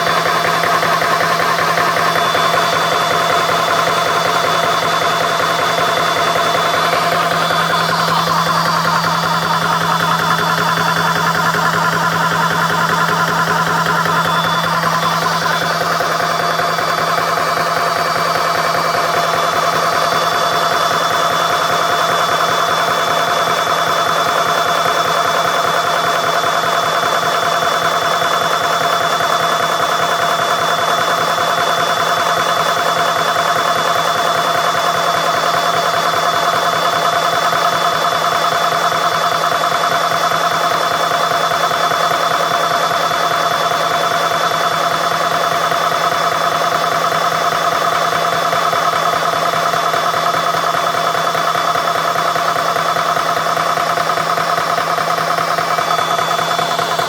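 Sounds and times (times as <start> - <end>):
air compressor running with whine: 0.0 - 57.0.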